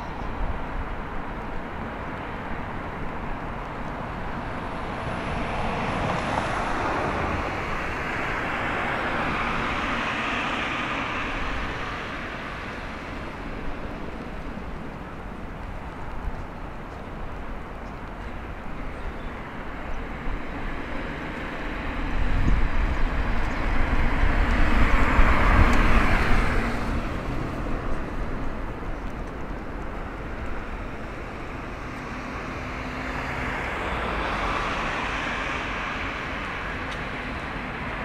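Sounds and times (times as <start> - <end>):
vehicles passing: 0.0 - 38.0.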